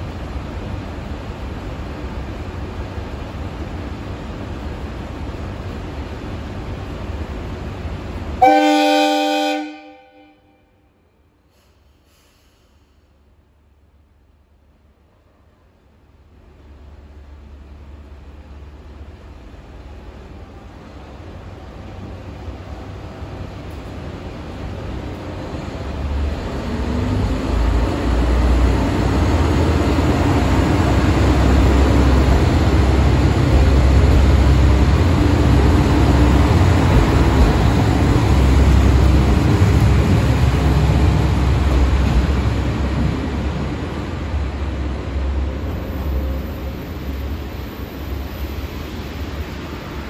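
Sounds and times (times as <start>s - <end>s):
diesel railcar engine rumble: 0.0s - 50.0s.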